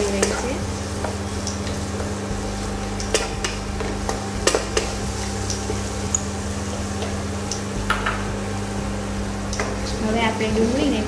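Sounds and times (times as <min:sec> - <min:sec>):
onions sizzling in pan: 0:00.0 - 0:11.0.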